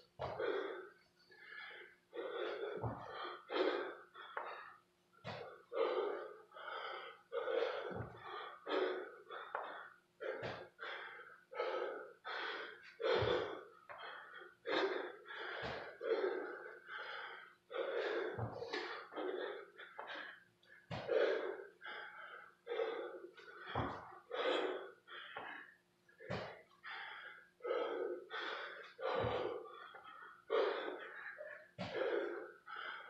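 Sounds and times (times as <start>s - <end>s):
man breathing hard: 0.0s - 33.0s.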